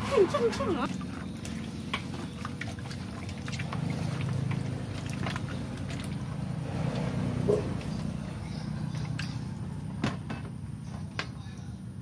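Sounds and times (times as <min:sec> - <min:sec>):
wet squelching of eels: 0:00.0 - 0:09.8
low motor rumble: 0:00.0 - 0:12.0.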